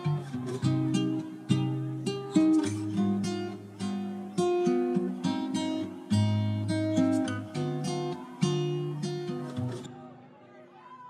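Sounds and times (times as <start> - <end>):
acoustic guitar strumming chords: 0.0 - 10.2.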